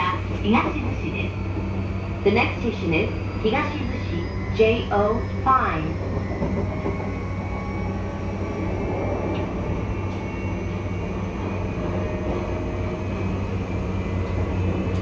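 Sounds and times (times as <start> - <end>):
inverter and motor tones: 0.0 - 15.0
train wheels rumbling on rail: 0.0 - 15.0.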